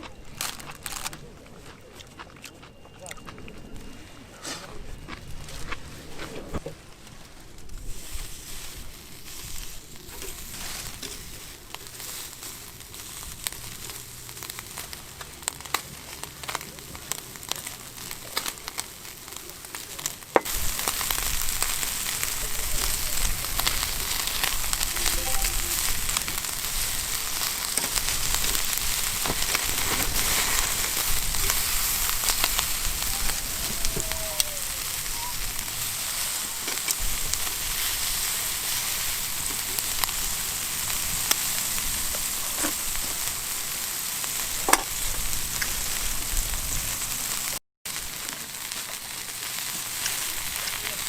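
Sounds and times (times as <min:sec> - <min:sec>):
food frying in a pan: 0:07.9 - 0:51.0.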